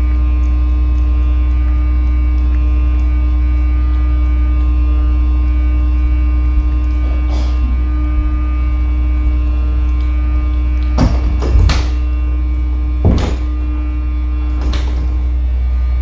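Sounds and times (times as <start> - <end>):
pump low buzzing hum: 0.0 - 16.0.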